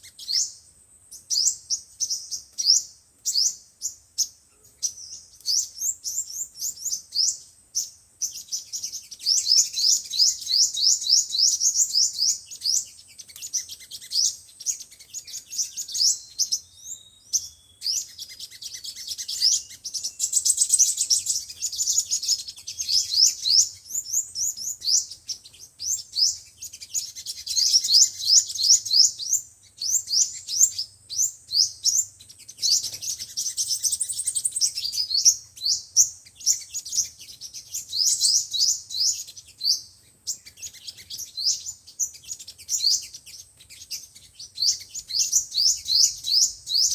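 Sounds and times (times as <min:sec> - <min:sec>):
bird trilling song: 0:00.0 - 0:46.9.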